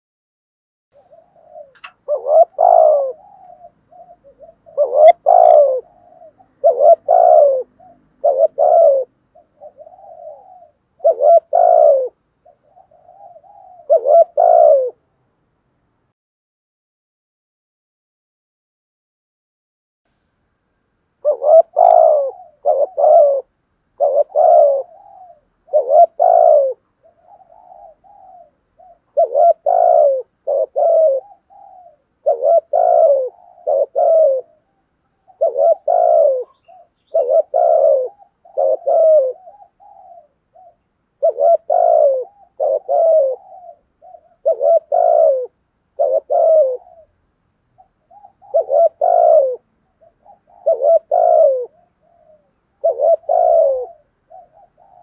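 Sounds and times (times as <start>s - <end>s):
dove cooing: 1.0s - 15.1s, 21.2s - 55.0s.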